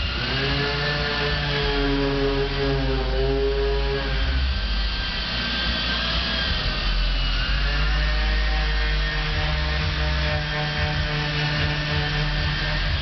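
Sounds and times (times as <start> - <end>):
power sanders and grinder running: 0.0 - 13.0.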